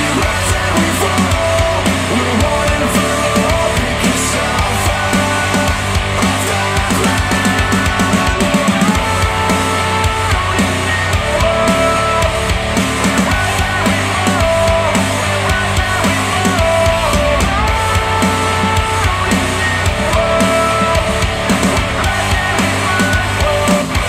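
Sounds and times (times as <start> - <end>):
rock music over speakers: 0.0 - 24.0.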